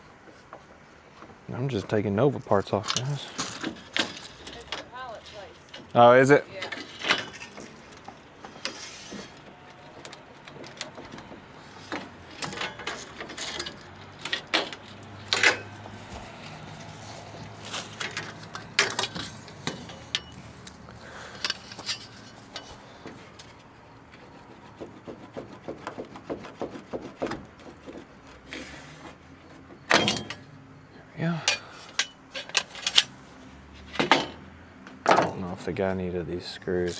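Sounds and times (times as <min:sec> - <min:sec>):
trim parts rattling: 0:01.2 - 0:30.6, 0:31.2 - 0:36.0.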